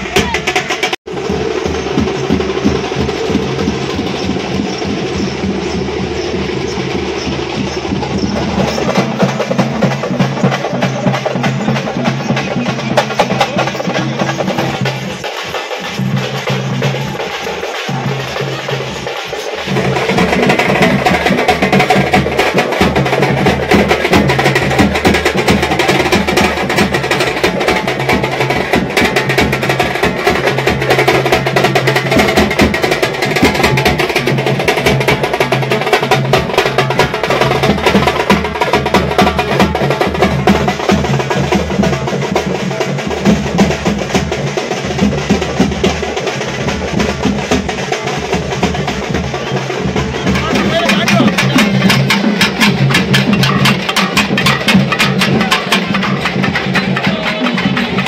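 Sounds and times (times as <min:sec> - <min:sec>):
fast drumming with clicking strokes: 0:00.0 - 0:58.0.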